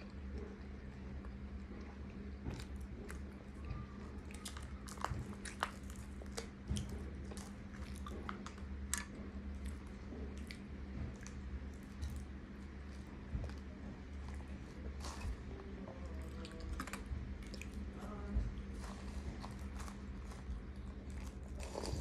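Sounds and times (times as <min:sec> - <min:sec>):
person chewing chewy food: 0:00.0 - 0:22.0
steady low hum: 0:00.0 - 0:22.0.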